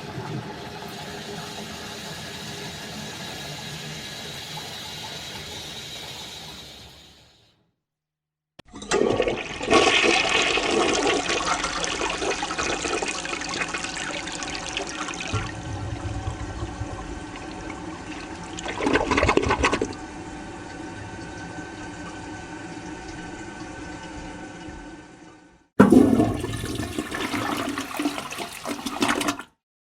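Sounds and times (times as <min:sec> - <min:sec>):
toilet flushing: 0:00.0 - 0:07.5, 0:08.7 - 0:29.6.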